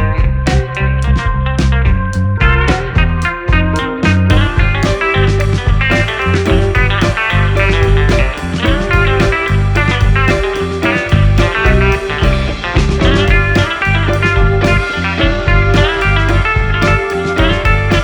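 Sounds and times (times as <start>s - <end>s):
blues-rock music: 0.0s - 18.0s.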